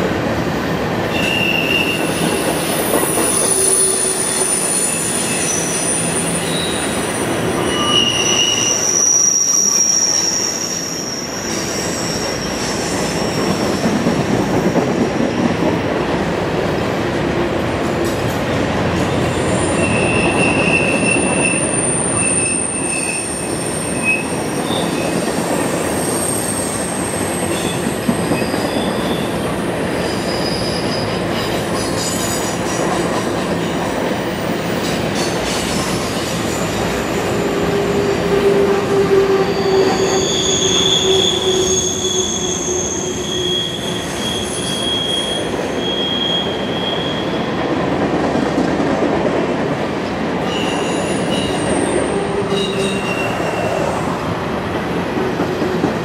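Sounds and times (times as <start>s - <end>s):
freight train cars rumbling past: 0.0s - 56.0s
train wheels squealing on rails: 1.0s - 15.8s, 19.0s - 47.8s, 50.3s - 56.0s.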